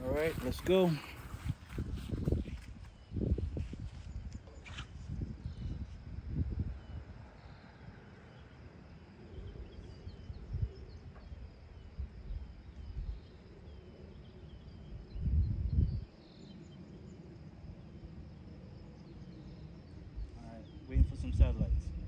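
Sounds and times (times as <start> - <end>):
wind rumbling on microphone: 0.0 - 22.0
faint bird chirps: 0.4 - 21.9.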